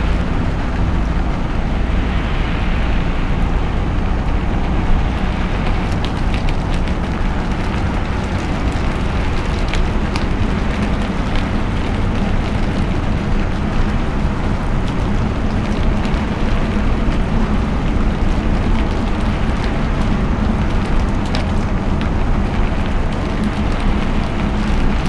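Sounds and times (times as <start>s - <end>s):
tyres and engine on wet road: 0.0s - 25.0s
raindrops ticking: 3.6s - 25.0s.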